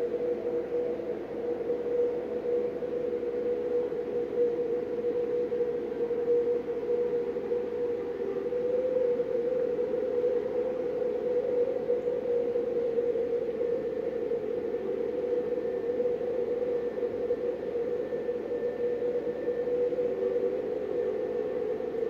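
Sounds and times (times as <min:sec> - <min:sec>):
underwater ambience drone: 0:00.0 - 0:22.0.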